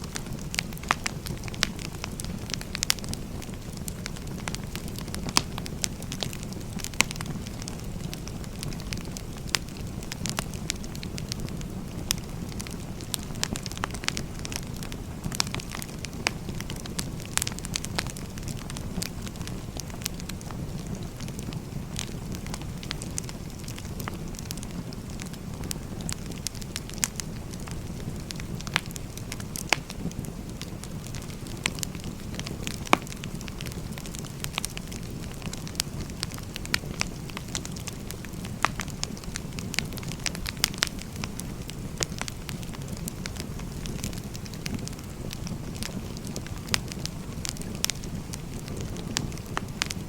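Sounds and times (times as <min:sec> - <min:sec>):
flames rumbling: 0:00.0 - 0:50.0
logs crackling and popping: 0:00.0 - 0:50.0.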